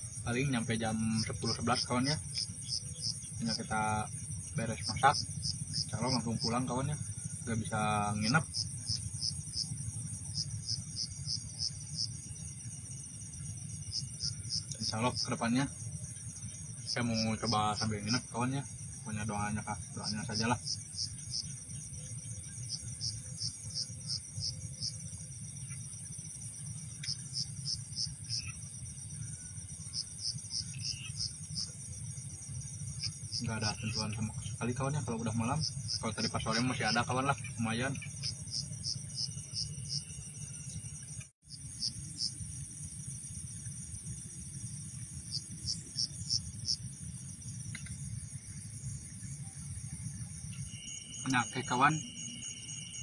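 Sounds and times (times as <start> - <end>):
crickets chirping: 0.0 - 53.0
high insect trill: 0.0 - 53.0.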